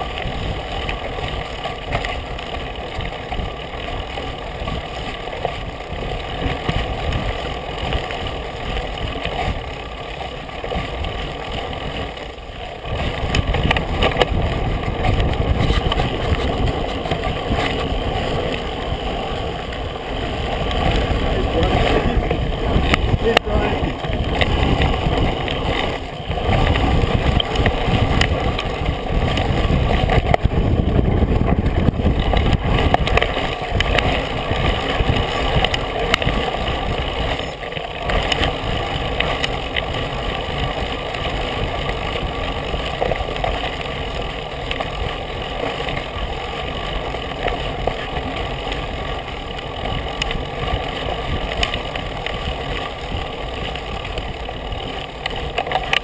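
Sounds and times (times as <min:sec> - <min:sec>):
bike knocks and rattles: 0:00.0 - 0:56.0
tyres rolling over dirt: 0:00.0 - 0:56.0
wind rushing over microphone: 0:00.0 - 0:56.0.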